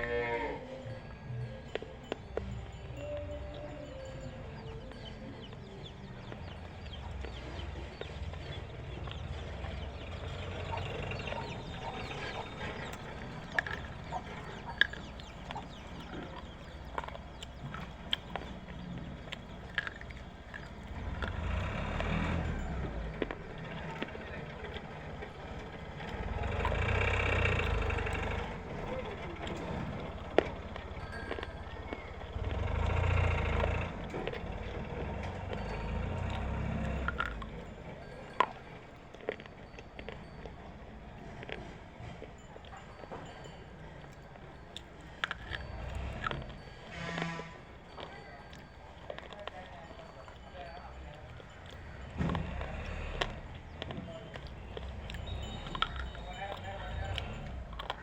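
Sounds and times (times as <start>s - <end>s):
crunching between teeth: 6.3s - 58.0s.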